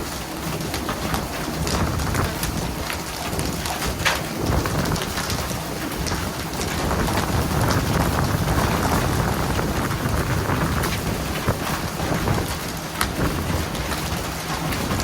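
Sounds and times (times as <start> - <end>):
boat engine running low: 0.0 - 15.0
water spray and splashing: 0.0 - 15.0.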